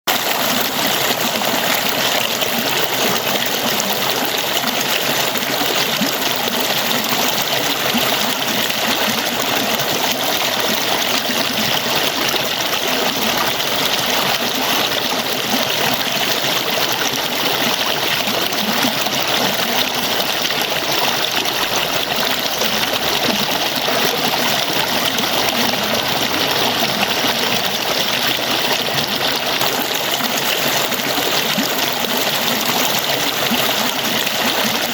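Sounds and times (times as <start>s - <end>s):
falling water splashing: 0.1s - 34.9s.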